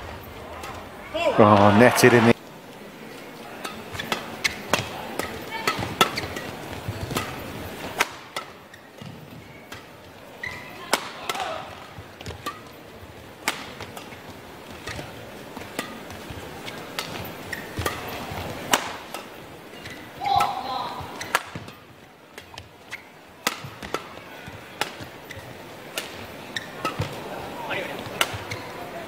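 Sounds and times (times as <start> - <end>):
murmur of indoor hall: 0.0 - 29.0
rackets striking shuttlecock: 3.5 - 12.8, 13.4 - 27.2, 27.8 - 28.7.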